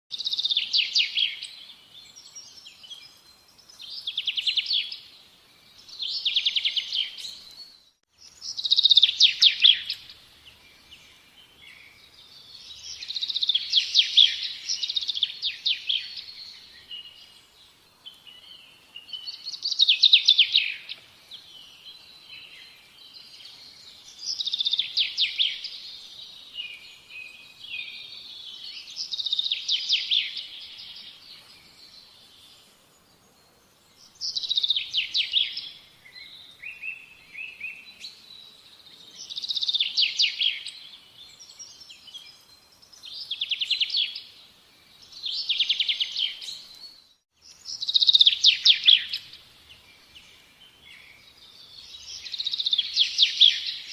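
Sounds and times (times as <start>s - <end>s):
songbirds trilling chirps: 0.1s - 53.9s.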